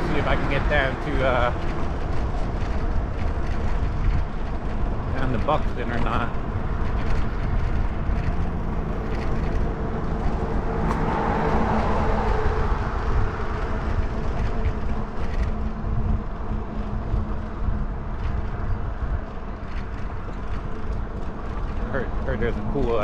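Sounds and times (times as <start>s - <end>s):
bike tires rolling: 0.0s - 23.0s
wind on microphone: 0.0s - 23.0s.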